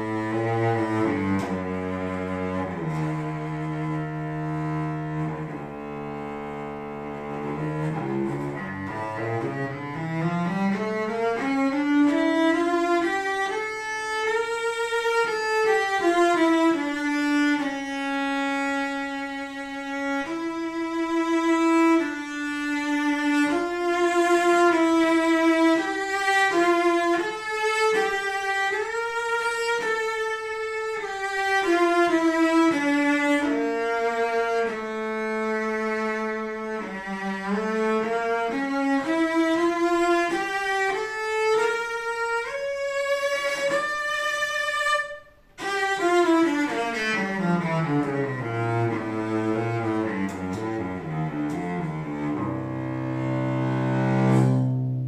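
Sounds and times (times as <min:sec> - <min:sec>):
bowed cello melody: 0:00.0 - 0:55.0.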